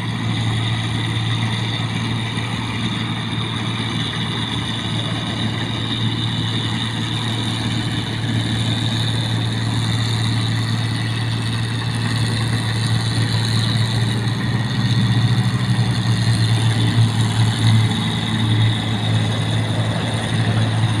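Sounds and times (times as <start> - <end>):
machine engine low hum: 0.0 - 21.0.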